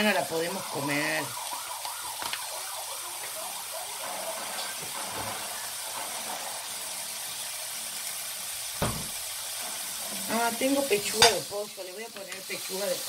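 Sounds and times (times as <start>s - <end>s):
bacon sizzling in a wok: 0.0s - 13.0s.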